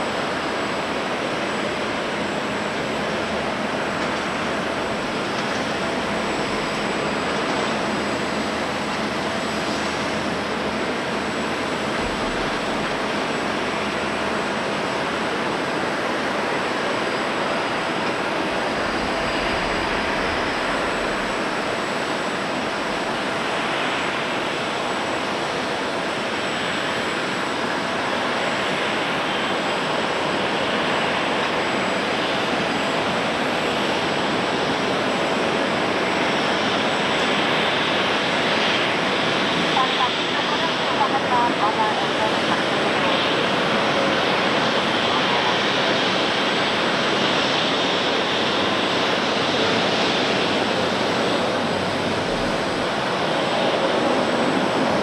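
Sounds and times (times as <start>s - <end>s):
faint jet engine whine: 0.0s - 55.0s
jet engines rushing: 0.0s - 55.0s.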